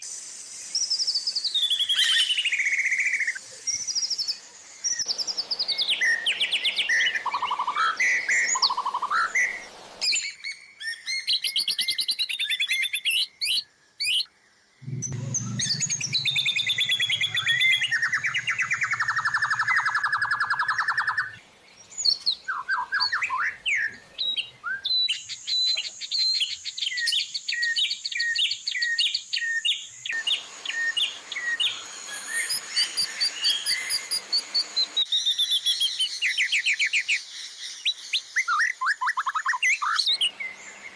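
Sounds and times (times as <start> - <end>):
songbird whistles and trills: 0.6 - 40.6.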